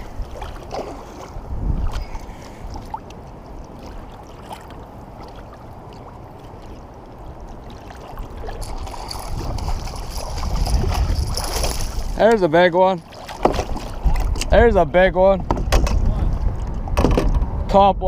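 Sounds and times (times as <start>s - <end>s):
river water lapping around kayak: 0.0s - 17.6s.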